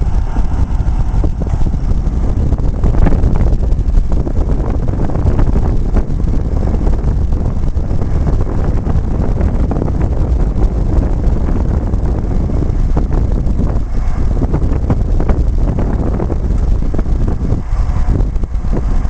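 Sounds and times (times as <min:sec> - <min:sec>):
hydraulics folding boom: 0:00.0 - 0:19.0
sprayer engine running: 0:00.0 - 0:19.0
wind rumble on microphone: 0:00.0 - 0:19.0.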